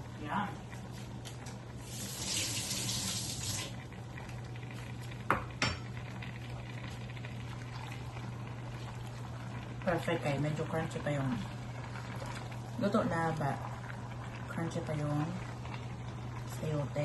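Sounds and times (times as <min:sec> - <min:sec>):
steady low hum: 0:03.2 - 0:17.0.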